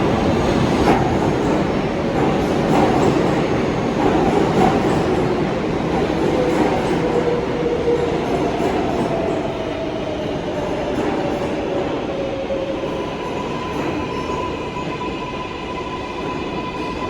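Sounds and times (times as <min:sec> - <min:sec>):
subway wheels rumbling on rail: 0:00.0 - 0:17.0.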